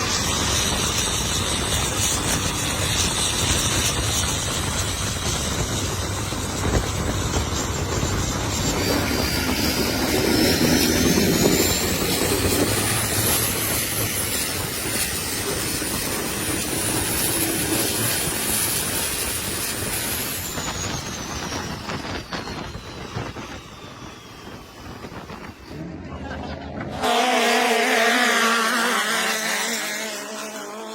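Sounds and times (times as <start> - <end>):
boat engine running hard: 0.0 - 30.9
high turbo whine: 0.0 - 30.9.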